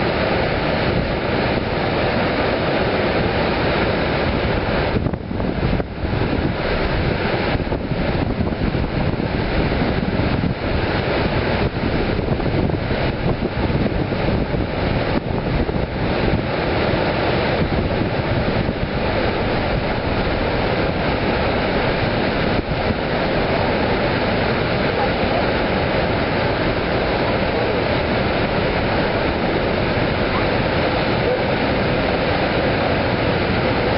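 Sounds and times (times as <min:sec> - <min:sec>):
freight train rumbling: 0:00.0 - 0:33.9
waterfall roaring: 0:00.0 - 0:33.9
wind buffeting microphone: 0:00.0 - 0:33.9.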